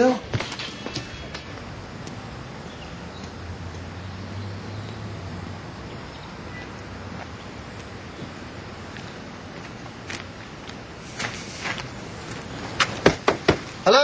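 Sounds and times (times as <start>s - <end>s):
low vehicle hum: 0.0s - 13.9s
road traffic noise: 0.0s - 14.0s.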